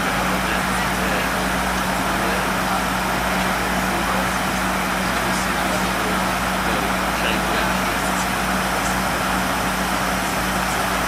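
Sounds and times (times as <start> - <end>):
airliner cabin engine noise: 0.0 - 11.0
constant low hum: 0.0 - 11.0.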